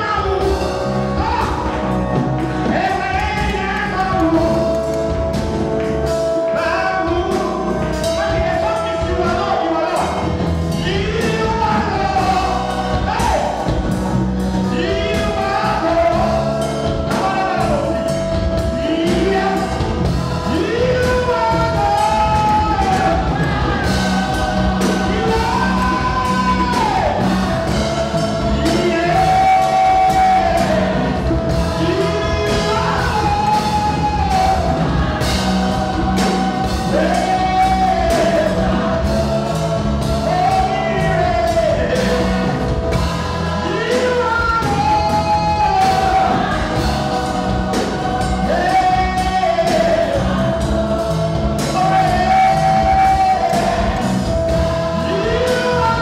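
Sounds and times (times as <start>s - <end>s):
choir singing: 0.0s - 56.0s
drum kit and band: 0.0s - 56.0s
lead singer singing: 0.0s - 56.0s.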